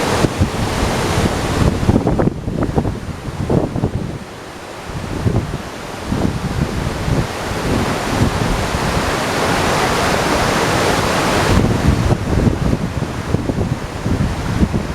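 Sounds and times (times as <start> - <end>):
waterfall rushing: 0.0 - 14.9
wind buffeting microphone: 0.0 - 14.9.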